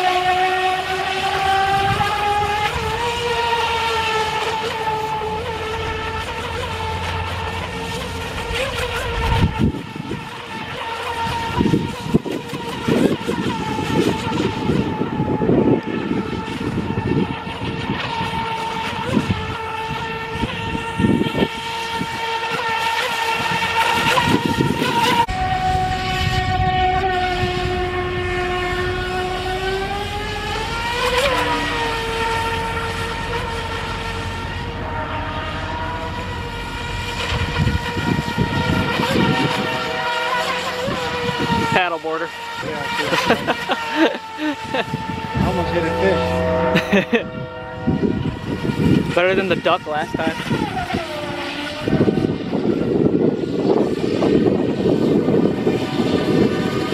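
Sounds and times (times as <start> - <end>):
gusty low rumbling: 0.0 - 41.9, 44.3 - 56.9
rc speedboat motor whine: 0.0 - 56.9.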